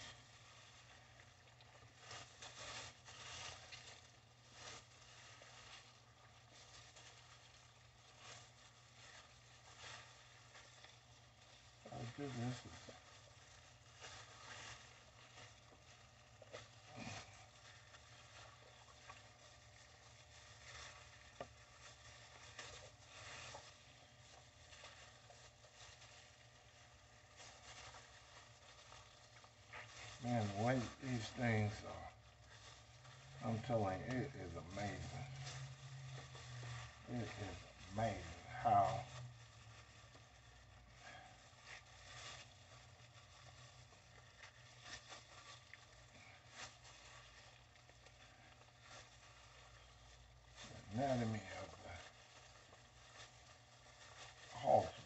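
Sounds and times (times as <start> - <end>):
faint wet squishing: 0.0 - 55.0
low steady hum: 0.0 - 55.0
plastic rustling: 0.0 - 55.0.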